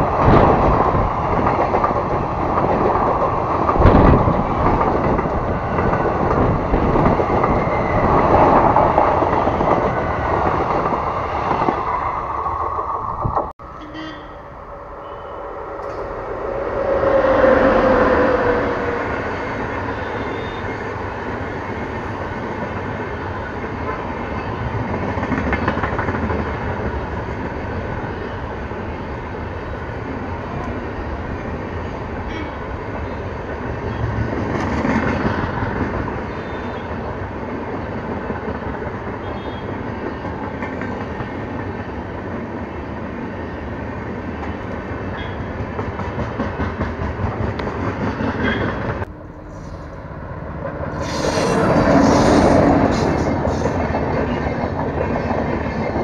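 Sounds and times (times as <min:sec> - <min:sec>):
train wheels on rails: 0:00.0 - 0:14.0, 0:14.7 - 0:28.2, 0:28.8 - 0:56.0.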